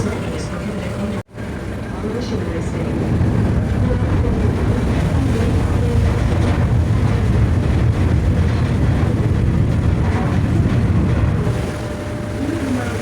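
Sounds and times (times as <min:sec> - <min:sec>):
ship engines rumbling: 0:00.0 - 0:13.0.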